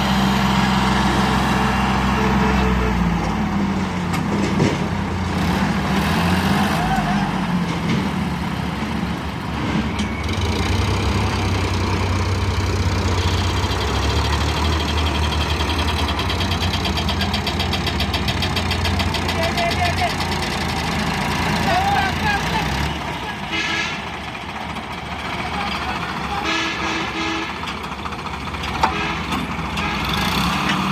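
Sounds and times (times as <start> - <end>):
tractor diesel engine idling: 0.0 - 4.0, 10.1 - 30.9.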